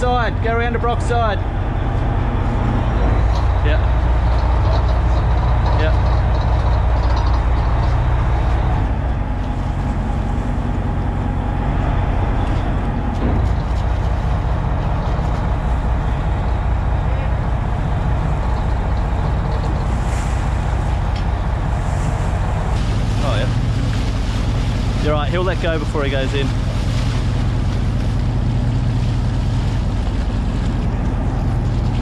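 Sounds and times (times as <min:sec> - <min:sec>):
boat engine humming: 0:00.0 - 0:32.0
water washing along hull: 0:00.0 - 0:32.0.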